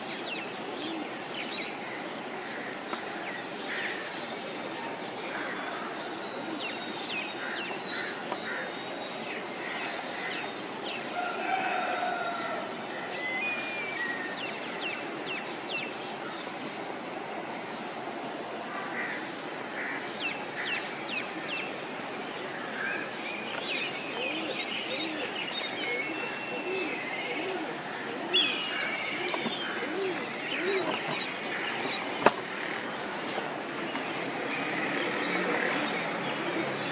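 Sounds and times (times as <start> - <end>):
birds chirping: 0.0 - 36.9
steady background hiss: 0.0 - 36.9.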